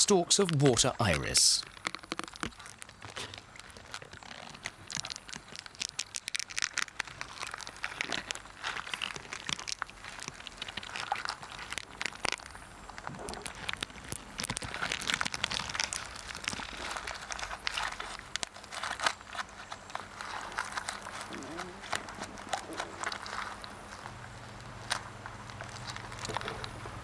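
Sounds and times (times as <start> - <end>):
beetle crackling in plant stalks: 0.0 - 27.0.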